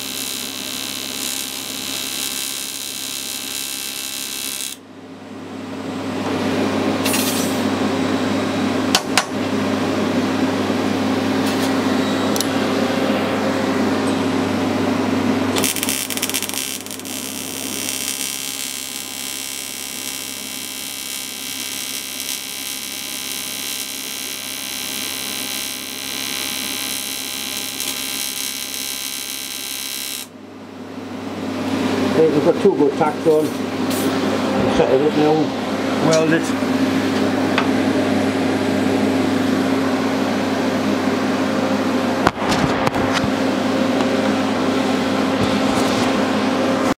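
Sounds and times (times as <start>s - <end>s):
welding set humming: 0.0s - 46.9s.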